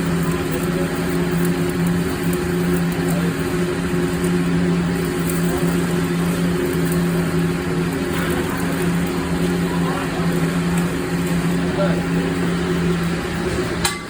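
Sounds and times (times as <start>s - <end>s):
welding arc crackling hiss: 0.0s - 14.0s
welding machine humming: 0.0s - 14.0s.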